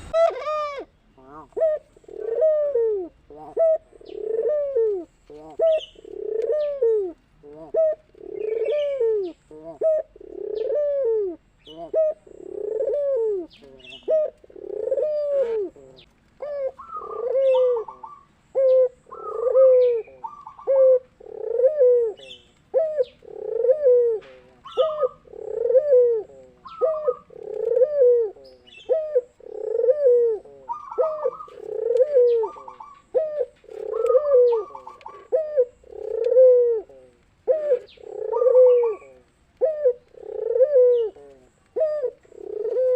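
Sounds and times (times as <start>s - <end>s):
doves cooing: 0.0s - 42.9s
higher-pitched dove coo: 0.0s - 42.9s.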